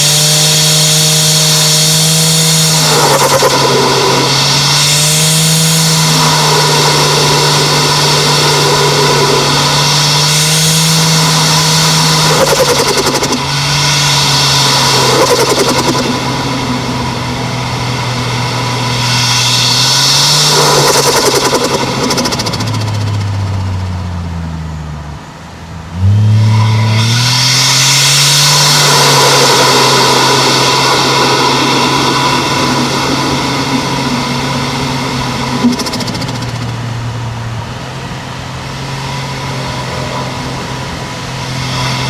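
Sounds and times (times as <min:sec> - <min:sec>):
turbo hiss: 0:00.0 - 0:24.4, 0:25.9 - 0:42.0
car engine accelerating: 0:00.0 - 0:42.0.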